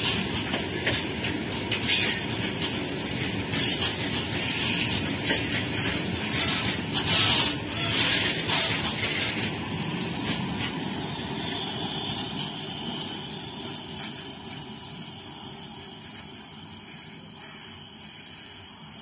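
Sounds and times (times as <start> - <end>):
faint clicks of wheels over rails: 0.0 - 19.0
freight train wagons rumbling: 0.0 - 19.0.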